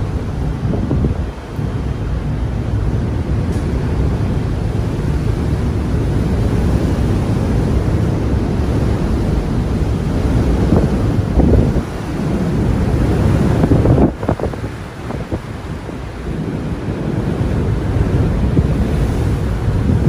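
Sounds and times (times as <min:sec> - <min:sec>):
rough sea: 0:00.0 - 0:20.0
wind buffeting microphone: 0:00.0 - 0:20.0.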